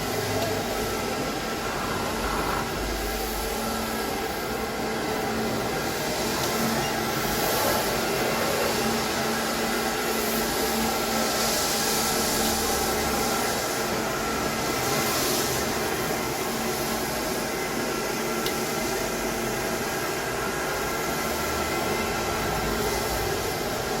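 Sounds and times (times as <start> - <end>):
floor scrubber motor whirring: 0.0 - 24.0.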